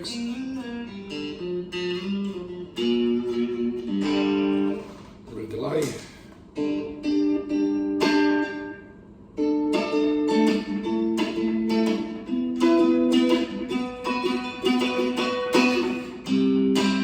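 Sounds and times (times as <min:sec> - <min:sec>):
electric guitar with delay: 0:00.0 - 0:04.8, 0:06.6 - 0:17.0.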